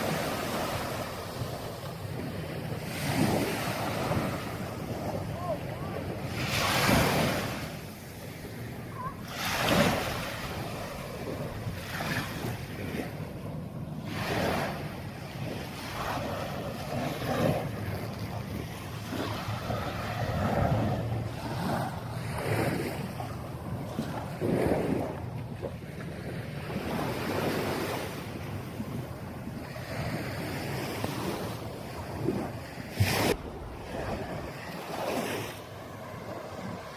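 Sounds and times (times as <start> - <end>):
sea waves washing onto beach: 0.0 - 36.9
wind buffeting microphone: 0.0 - 36.9.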